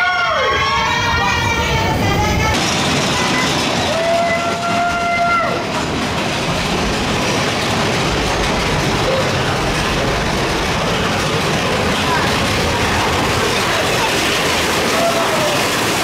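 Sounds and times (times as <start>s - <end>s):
roller coaster rattling on track: 0.0s - 16.0s.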